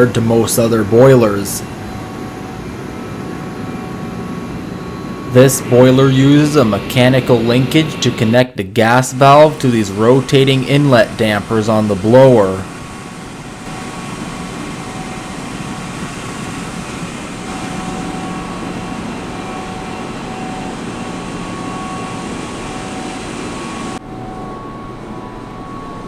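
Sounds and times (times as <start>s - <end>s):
boiler burner rushing: 0.0s - 26.0s
dull machinery hum: 0.0s - 26.0s
faint steady hums: 0.0s - 26.0s.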